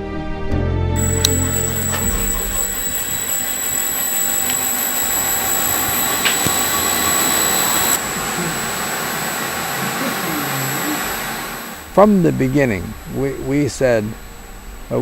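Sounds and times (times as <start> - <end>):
thin high whine: 1.0 - 15.0.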